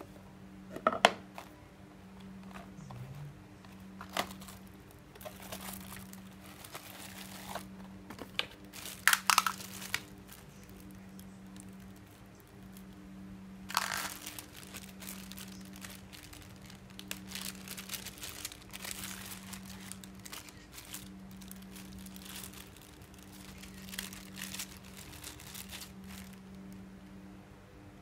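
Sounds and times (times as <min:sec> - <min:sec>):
plastic bags crinkling: 0:03.7 - 0:13.0, 0:13.6 - 0:26.8.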